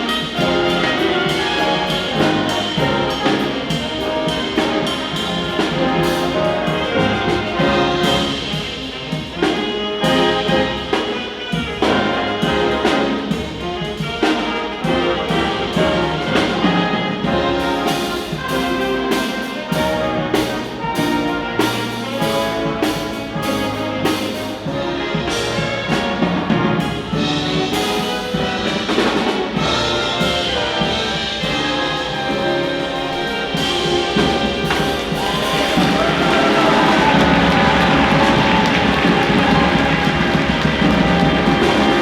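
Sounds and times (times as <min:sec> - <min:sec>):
band playing: 0:00.0 - 0:42.0
steady drum beat: 0:00.0 - 0:42.0
trumpets and trombones: 0:00.0 - 0:42.0.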